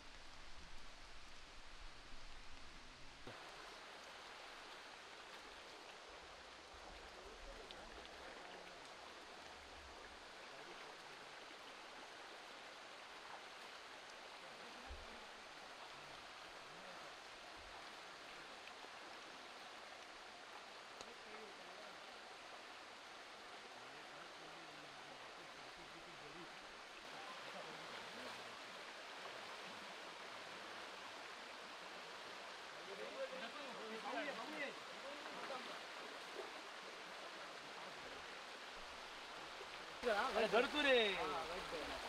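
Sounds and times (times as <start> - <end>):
stream rushing over stones: 0.0 - 42.0.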